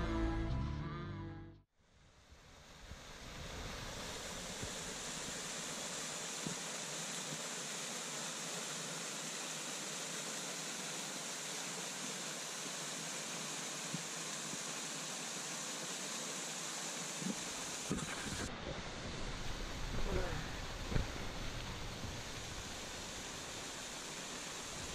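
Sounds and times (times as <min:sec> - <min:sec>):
waterfall rushing into pool: 0:02.3 - 0:24.9.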